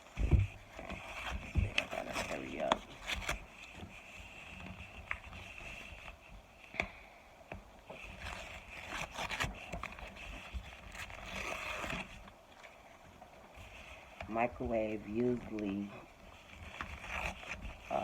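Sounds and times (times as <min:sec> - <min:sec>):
scraping and rubbing: 0:00.0 - 0:06.8, 0:07.6 - 0:18.0.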